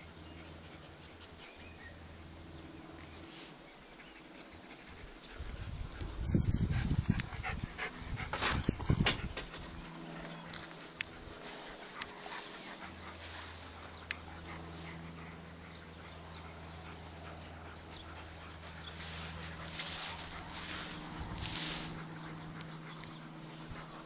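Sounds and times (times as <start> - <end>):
dog panting: 0.0 - 24.0
steady low hum: 0.0 - 24.0.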